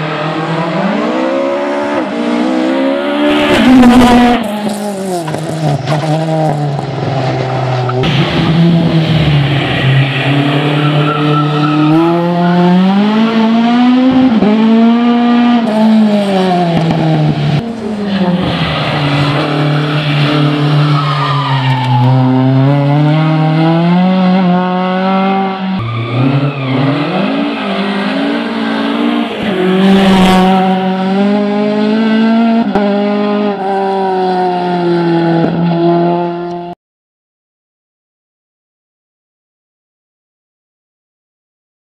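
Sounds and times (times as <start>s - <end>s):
race car engine revving: 0.0s - 36.7s.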